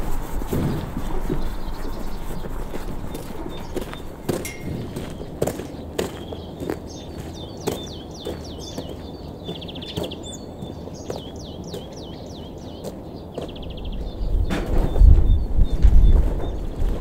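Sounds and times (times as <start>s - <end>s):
songbird calling: 0.0s - 17.0s
wind rumbling on microphone: 0.0s - 17.0s.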